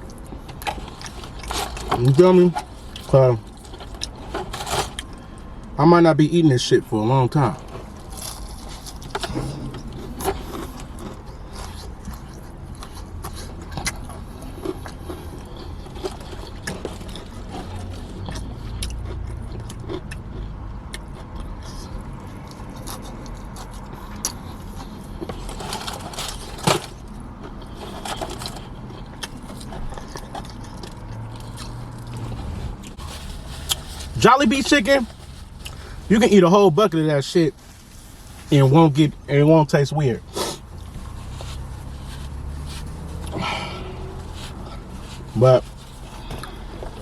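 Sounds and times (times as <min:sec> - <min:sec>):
person chewing crunchy fried chicken: 0:00.0 - 0:05.8, 0:07.6 - 0:36.2, 0:40.2 - 0:47.0
steady low hum: 0:00.0 - 0:47.0.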